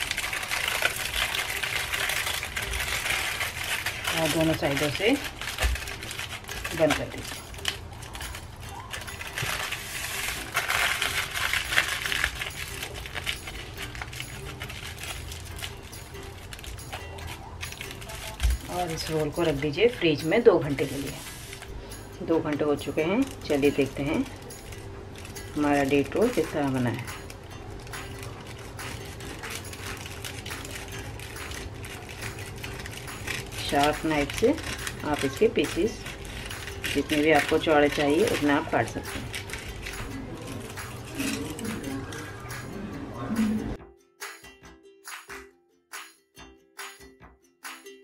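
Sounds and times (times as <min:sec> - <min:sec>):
aluminium foil crinkling: 0:00.0 - 0:42.8.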